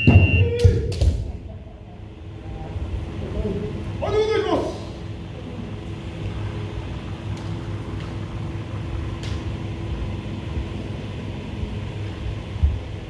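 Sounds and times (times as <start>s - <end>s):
low hum in hall: 0.0s - 13.0s.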